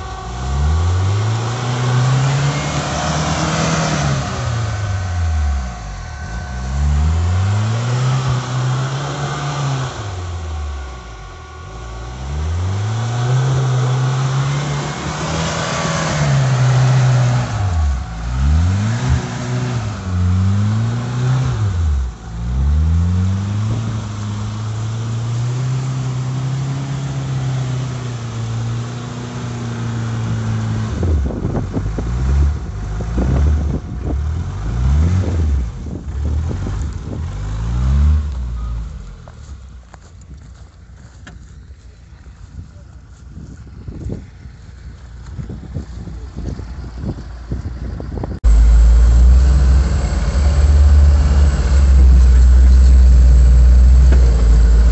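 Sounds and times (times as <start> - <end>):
car engine revving: 0.0 - 40.0, 46.3 - 54.9.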